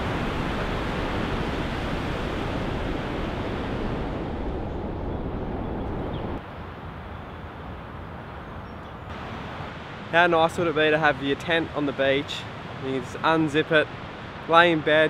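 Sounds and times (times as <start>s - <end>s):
ocean surf breaking: 0.0s - 6.4s, 9.1s - 15.0s.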